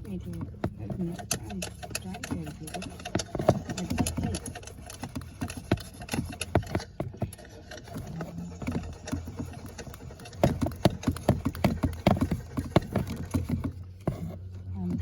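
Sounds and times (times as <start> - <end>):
car engine clacking and knocking: 0.0 - 15.0
low steady hum: 0.0 - 15.0.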